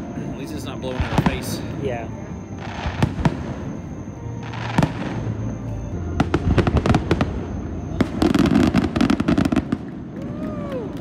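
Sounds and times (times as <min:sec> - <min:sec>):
fireworks crackling bursts: 0:00.0 - 0:11.0.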